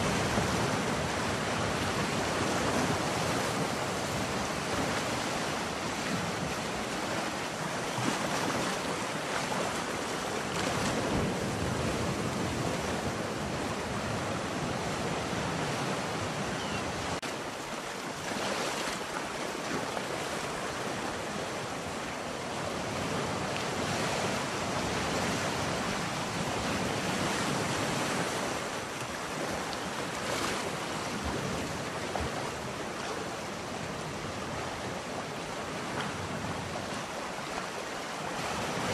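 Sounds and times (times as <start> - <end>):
ocean waves washing: 0.0 - 38.9.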